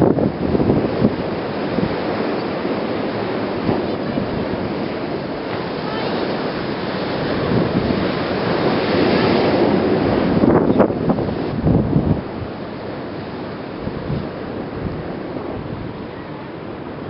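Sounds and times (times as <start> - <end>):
rough sea and surf: 0.0 - 17.0
wind buffeting microphone: 0.0 - 17.0.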